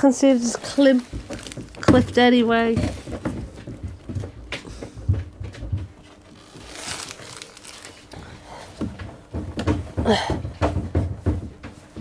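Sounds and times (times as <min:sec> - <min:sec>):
hose rustling and crinkling: 0:00.0 - 0:09.7.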